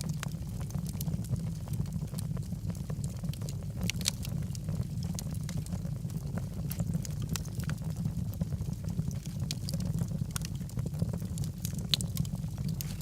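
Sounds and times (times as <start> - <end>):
wood logs burning crackling: 0.0 - 13.0.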